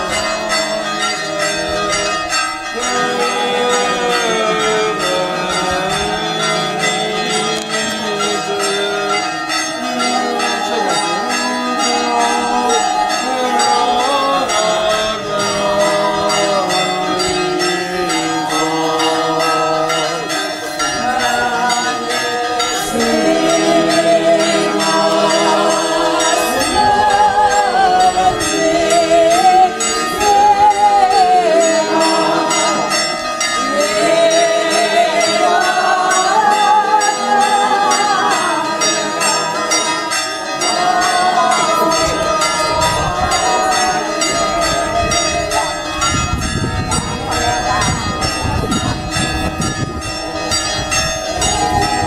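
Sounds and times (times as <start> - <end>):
church bells ringing: 0.0 - 52.0
people singing a hymn: 0.0 - 52.0.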